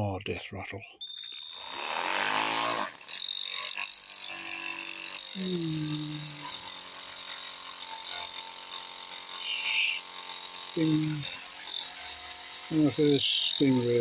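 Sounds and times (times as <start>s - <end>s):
electric motor high whine: 1.0s - 14.0s
electric boat motor rattling buzz: 1.1s - 14.0s.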